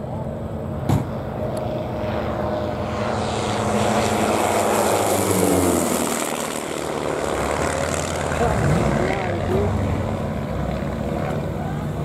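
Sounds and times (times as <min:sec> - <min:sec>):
propeller planes flying past: 0:00.0 - 0:12.0.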